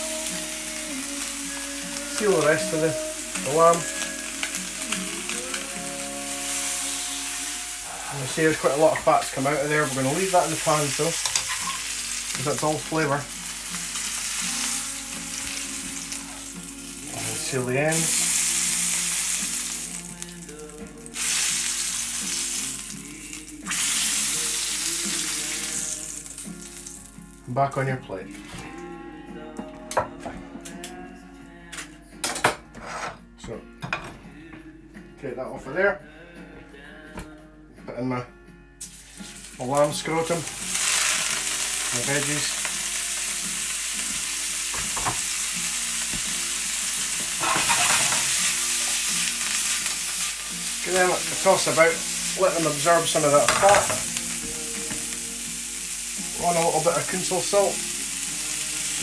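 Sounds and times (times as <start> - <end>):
meat sizzling in a frying pan: 0.0 - 27.3, 38.8 - 59.0.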